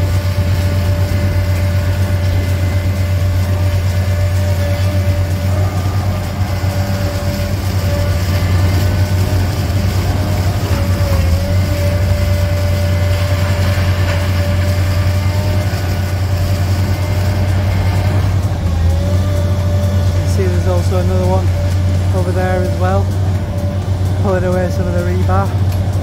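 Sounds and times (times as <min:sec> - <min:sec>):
demolition excavator engine droning: 0:00.0 - 0:26.0
hydraulic whine: 0:00.0 - 0:26.0.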